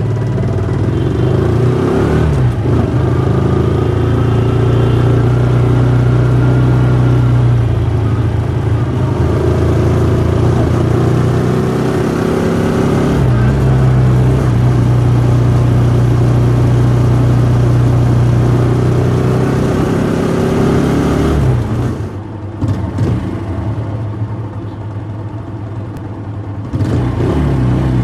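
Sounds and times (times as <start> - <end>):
motorcycle engine revving and idling: 0.0 - 28.0.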